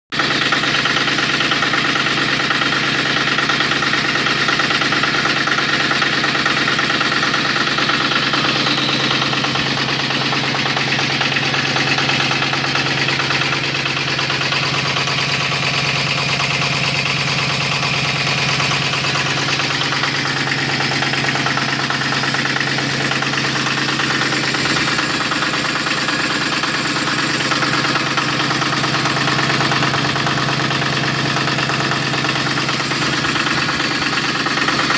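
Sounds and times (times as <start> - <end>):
diesel generator running: 0.1 - 34.9.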